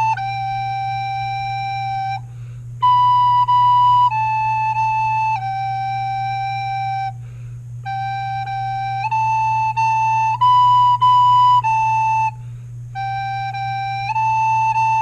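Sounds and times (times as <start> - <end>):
soprano recorder melody: 0.0 - 7.2, 7.8 - 12.4, 13.0 - 15.0
steady low hum: 0.0 - 15.0.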